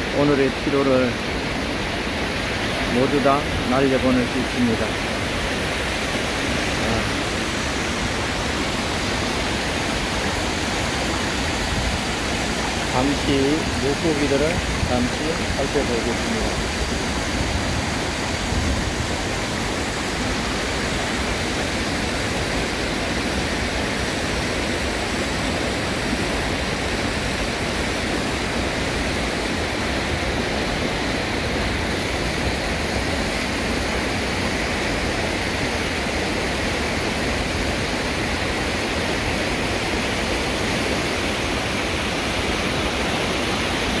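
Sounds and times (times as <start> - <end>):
flowing water rushing: 0.0 - 44.0.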